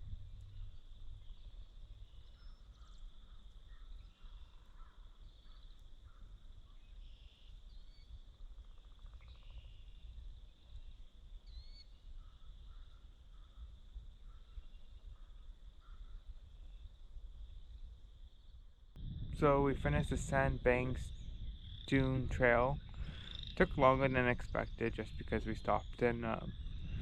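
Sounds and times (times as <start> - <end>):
bird chirps: 0.0 - 16.9, 18.4 - 27.0
low wind rumble: 0.0 - 27.0.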